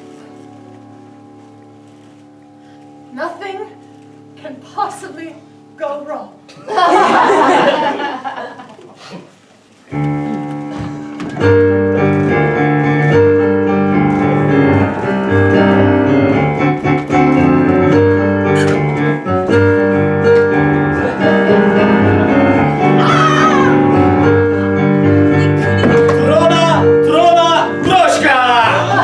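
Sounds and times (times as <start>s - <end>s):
piano playing chords: 0.0s - 8.2s, 9.9s - 29.0s.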